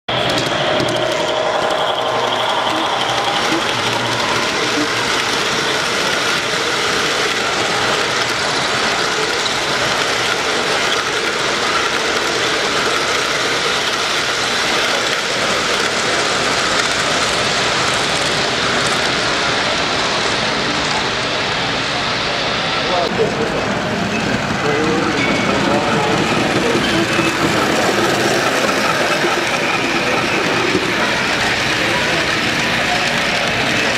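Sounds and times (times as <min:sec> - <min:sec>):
model train running on track: 0:00.1 - 0:33.9
steady background noise: 0:00.1 - 0:33.9.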